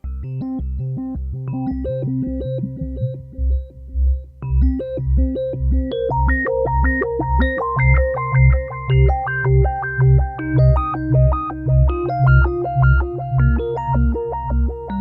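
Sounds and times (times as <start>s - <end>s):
synthesizer keyboard pattern: 0.0s - 15.0s
pulsing synth bass line: 0.4s - 15.0s.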